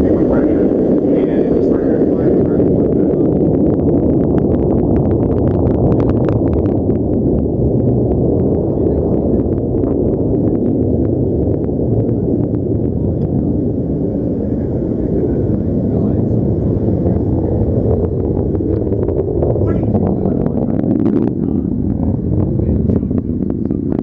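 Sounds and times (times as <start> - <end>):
rocket roaring and crackling: 0.0 - 24.0.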